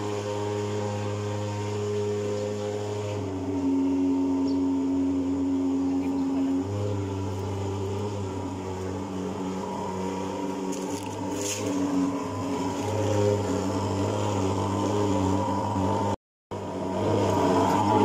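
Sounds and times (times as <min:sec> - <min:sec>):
fogging machine engine drone: 0:00.0 - 0:18.0.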